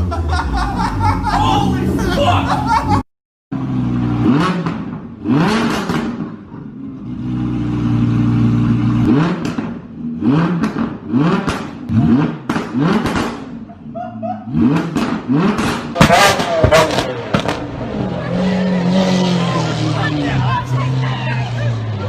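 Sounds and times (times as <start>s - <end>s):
sports car engine revving: 3.6s - 22.0s.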